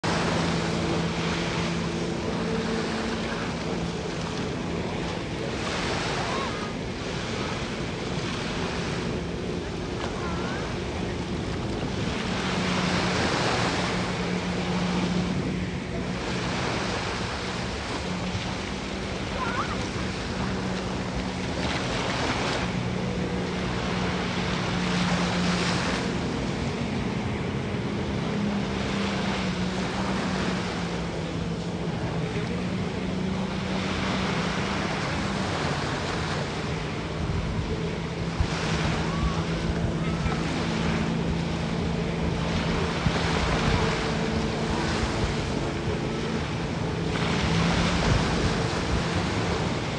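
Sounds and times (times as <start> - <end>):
jet ski engine drone: 0.0 - 49.9
surf washing in: 0.0 - 49.9.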